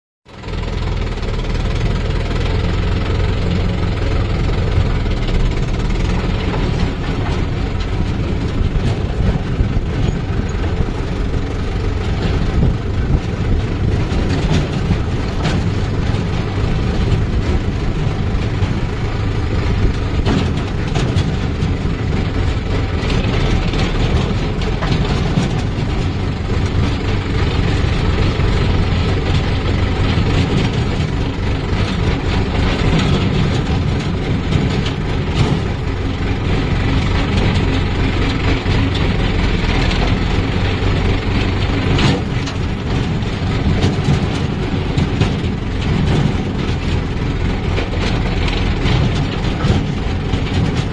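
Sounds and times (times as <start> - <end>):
diesel tractor engine running: 0.3 - 50.9.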